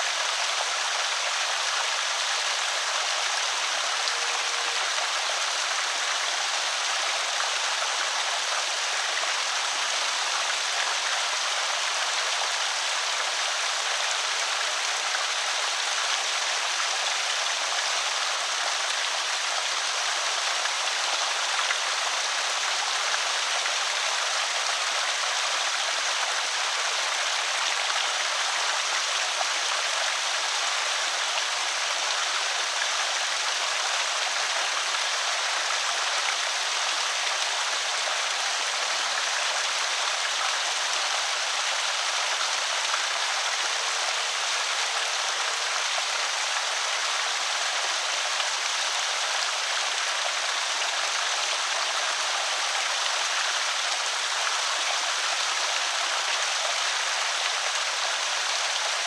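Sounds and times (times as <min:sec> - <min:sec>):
water pouring over spillway: 0:00.0 - 0:59.0.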